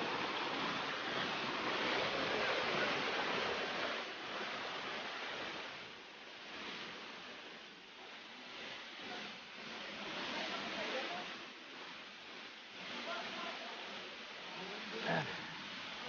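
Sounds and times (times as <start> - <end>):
water rushing over rock: 0.0 - 16.0.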